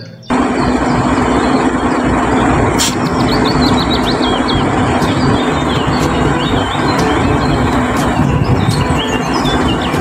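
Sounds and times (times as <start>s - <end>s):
birds chirping: 0.0s - 10.0s
truck engine humming: 0.0s - 10.0s.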